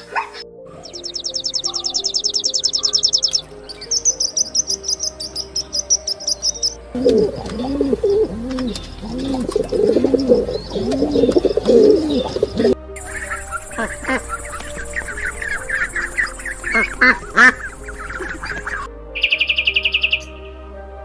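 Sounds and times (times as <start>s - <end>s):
low rising and falling bird calls: 0.0s - 20.5s
birds chirping: 0.0s - 20.6s
faint background music: 0.0s - 21.0s.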